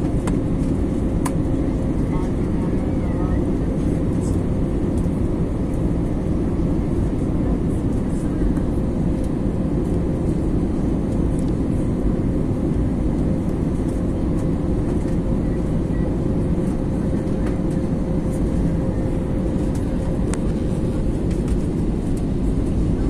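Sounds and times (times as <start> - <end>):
jet engines and airflow rumble: 0.0 - 23.0.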